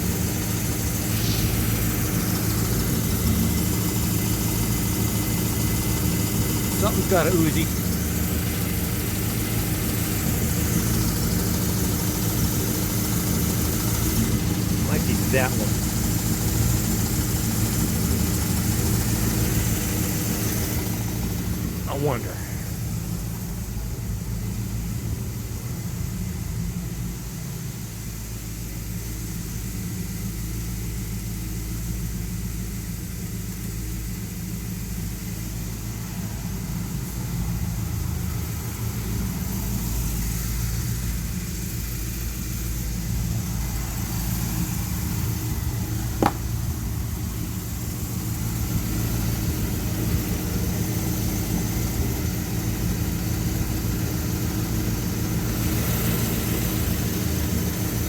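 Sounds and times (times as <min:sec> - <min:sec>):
pickup truck engine idling: 0:00.0 - 0:58.0.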